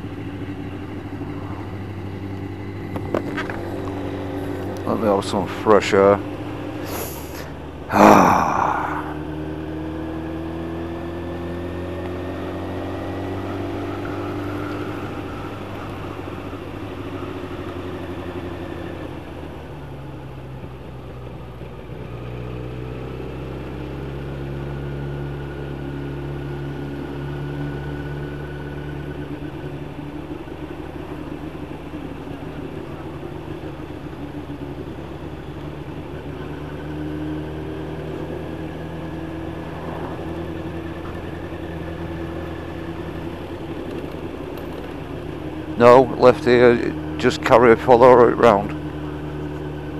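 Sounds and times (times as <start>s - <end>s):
motorcycle engine revving: 0.0s - 20.2s, 21.0s - 49.9s.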